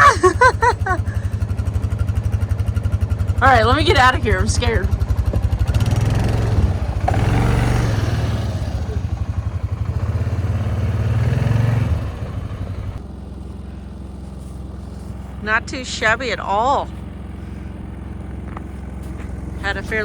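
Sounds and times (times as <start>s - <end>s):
vehicle engine revving under load: 0.0s - 20.0s.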